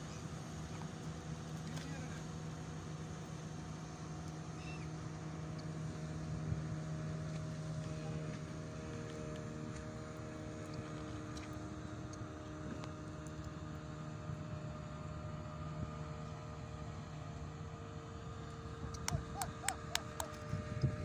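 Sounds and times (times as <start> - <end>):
outboard motor droning: 0.0 - 21.0
wind and water: 0.0 - 21.0.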